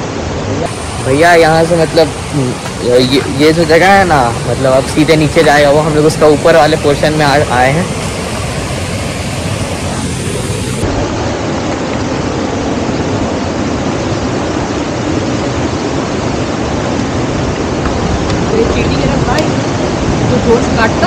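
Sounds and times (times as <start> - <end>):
fast stream rushing: 0.0 - 21.0.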